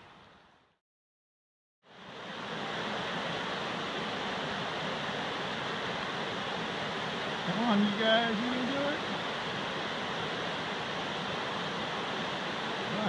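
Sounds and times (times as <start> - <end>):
small stream flowing: 1.9 - 13.0
whitewater rapids rushing: 2.0 - 13.0.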